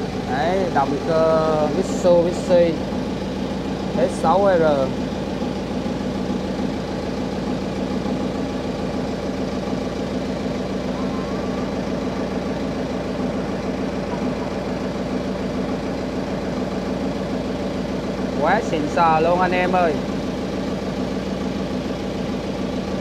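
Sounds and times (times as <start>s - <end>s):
generator engine running: 0.0s - 23.0s.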